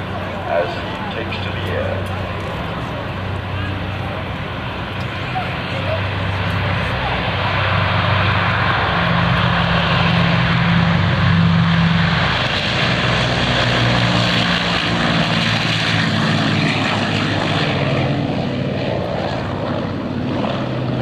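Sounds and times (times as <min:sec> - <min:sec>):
propeller airliner engines drone: 0:00.0 - 0:21.0.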